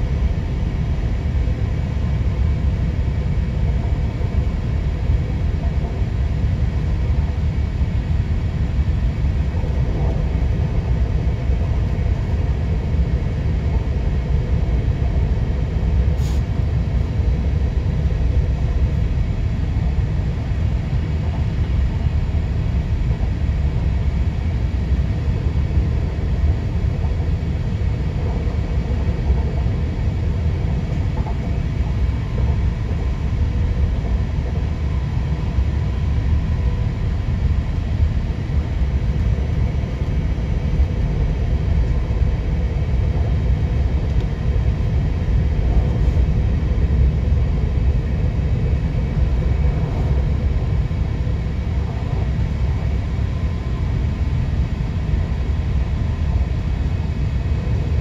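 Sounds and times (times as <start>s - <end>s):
electric train low rumble: 0.0s - 58.0s.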